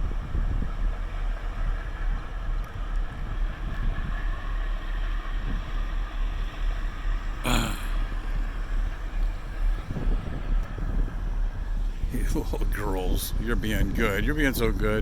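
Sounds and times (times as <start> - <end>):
diesel engines rumbling: 0.0 - 15.0
wind buffeting microphone: 0.0 - 15.0.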